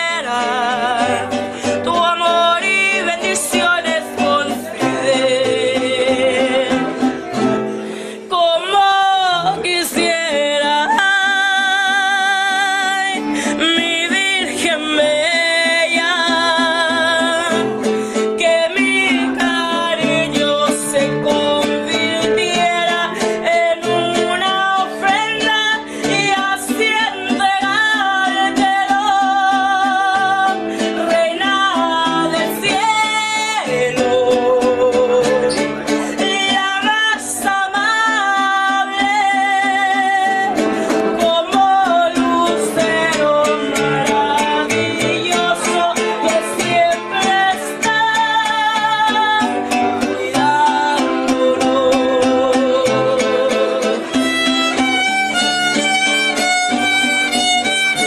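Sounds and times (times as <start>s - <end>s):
person singing with vibrato: 0.0s - 58.0s
plucked acoustic guitar: 0.0s - 58.0s.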